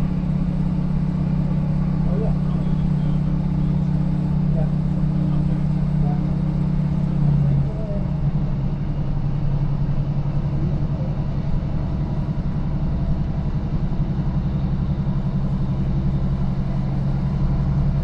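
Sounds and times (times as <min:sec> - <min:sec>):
train engine drone: 0:00.0 - 0:18.0
train wheels rumbling on track: 0:00.0 - 0:18.0.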